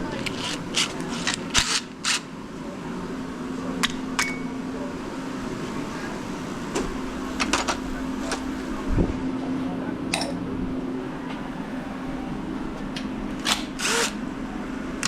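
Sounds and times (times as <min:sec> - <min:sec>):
low hum: 0:02.3 - 0:15.0.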